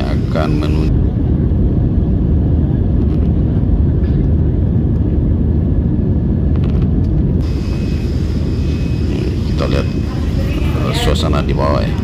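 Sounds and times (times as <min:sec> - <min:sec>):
airliner engines rumbling in cabin: 0:00.0 - 0:12.0.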